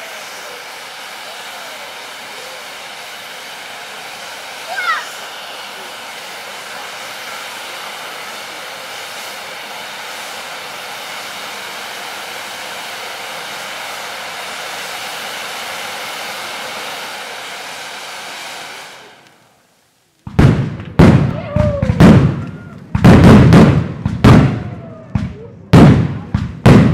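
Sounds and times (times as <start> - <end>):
fireworks fountains hissing: 0.0 - 26.9.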